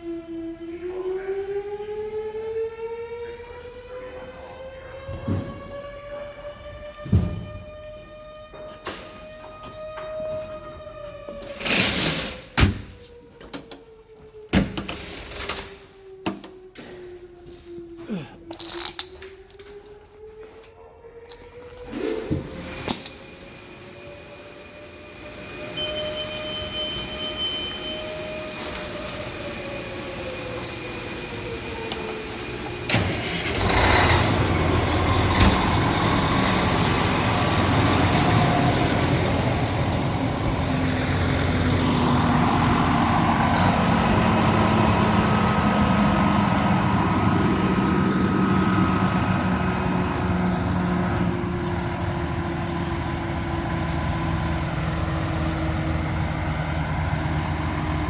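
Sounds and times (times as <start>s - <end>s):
fire truck engine starting: 0.0s - 18.3s, 19.4s - 58.0s.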